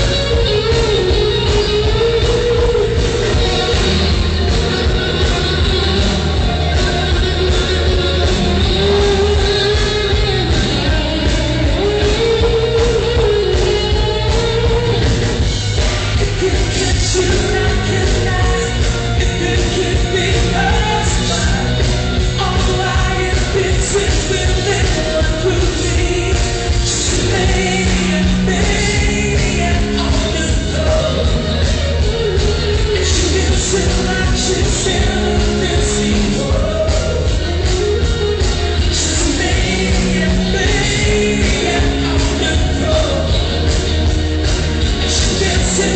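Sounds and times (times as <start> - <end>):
electric guitar: 0.0 - 45.9
steady bass: 0.0 - 45.9.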